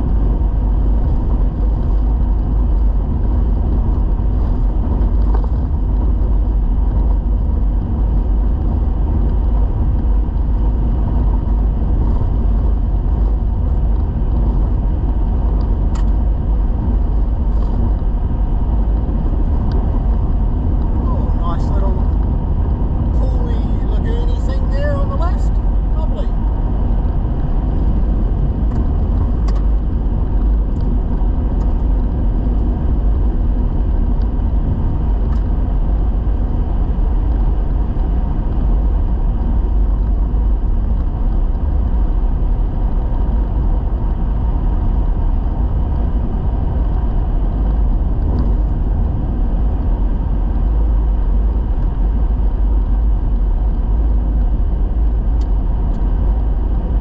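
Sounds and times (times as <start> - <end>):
tyre and wind noise: 0.0 - 57.0
vehicle road rumble on gravel: 0.0 - 57.0.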